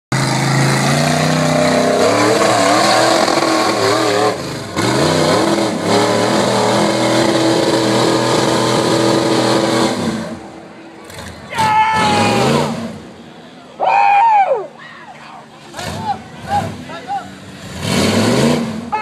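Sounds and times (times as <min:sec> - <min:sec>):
buggy engine revving hard: 0:00.1 - 0:13.2, 0:15.7 - 0:19.0.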